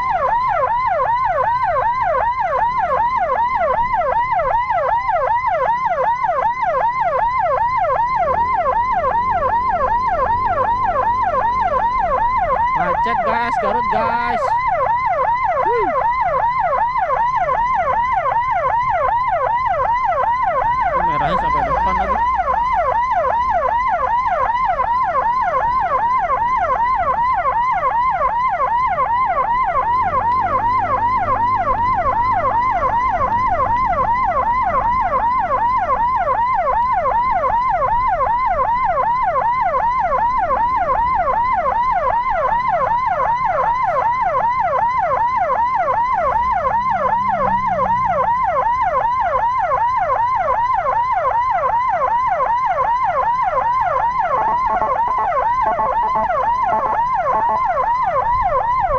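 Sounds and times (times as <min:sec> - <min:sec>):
emergency siren yelping: 0:00.0 - 0:58.9
low engine and traffic rumble: 0:00.0 - 0:58.9.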